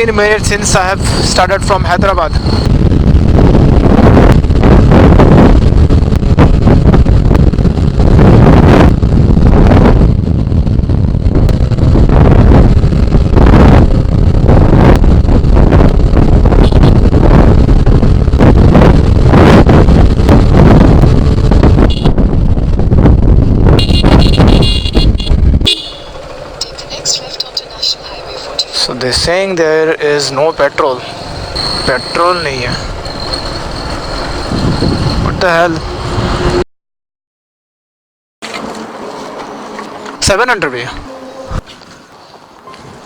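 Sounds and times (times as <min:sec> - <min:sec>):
motorcycle engine and road rumble: 0:00.0 - 0:36.6, 0:38.4 - 0:43.0
wind buffeting microphone: 0:00.0 - 0:36.6, 0:38.6 - 0:43.0.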